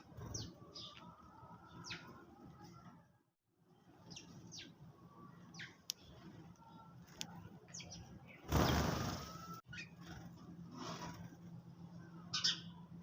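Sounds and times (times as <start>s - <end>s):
sparrows chirping: 0.0s - 2.9s, 3.7s - 13.0s.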